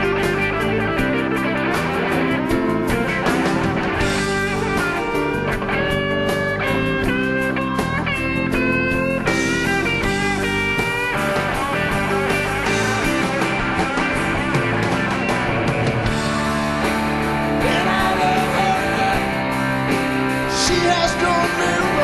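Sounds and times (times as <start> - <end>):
lead guitar bending notes: 0.0 - 22.0
rock band playing chords: 0.0 - 22.0.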